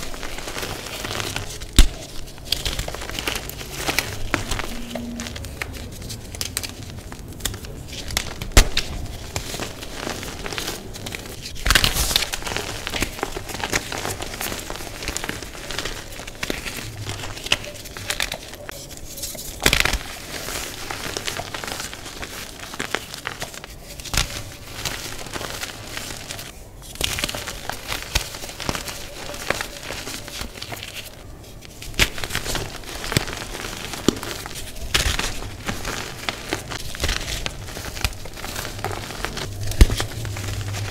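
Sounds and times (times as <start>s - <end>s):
chalk crushed by hands: 0.0s - 40.9s
rustle of powder: 0.0s - 40.9s.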